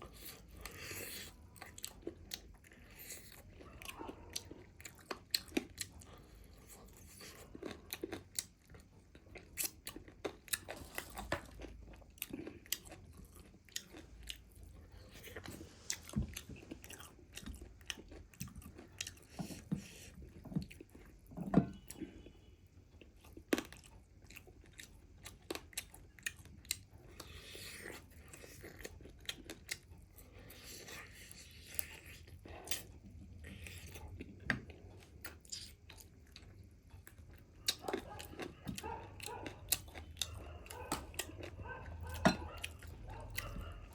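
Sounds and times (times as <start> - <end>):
chewing crispy chicken crunches: 0.1 - 20.1, 22.9 - 43.9.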